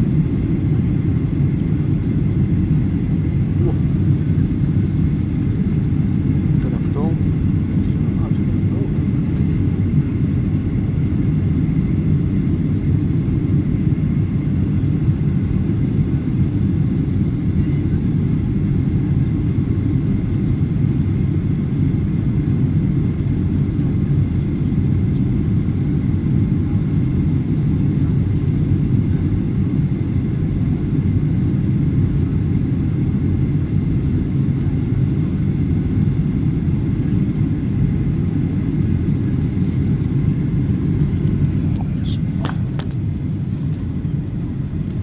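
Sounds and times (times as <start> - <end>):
faint steady whine: 0.0 - 45.0
jet engine cabin rumble: 0.0 - 45.0.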